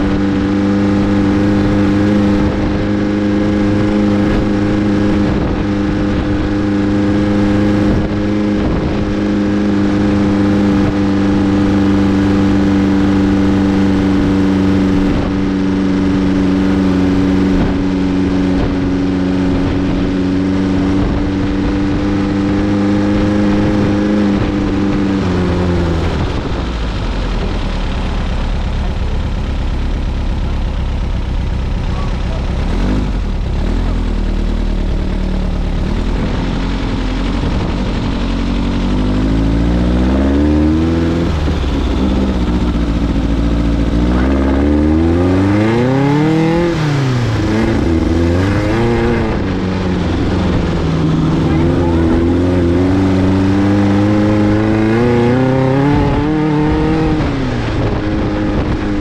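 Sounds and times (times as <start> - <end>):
buggy engine running: 0.0 - 59.0
wind: 0.0 - 59.0.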